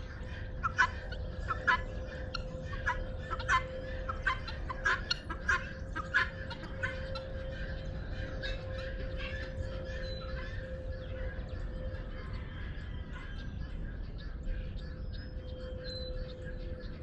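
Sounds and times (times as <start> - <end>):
guineafowl calling: 0.0 - 17.0.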